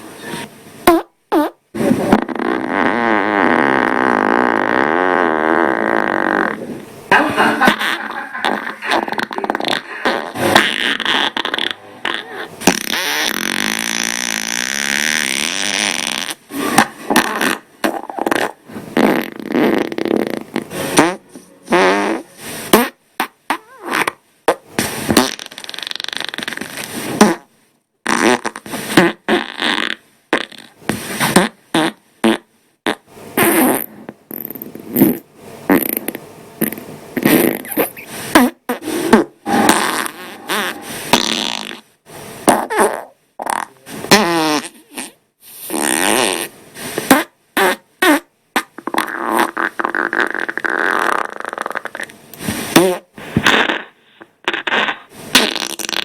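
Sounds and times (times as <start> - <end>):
farts: 0.2 - 56.0.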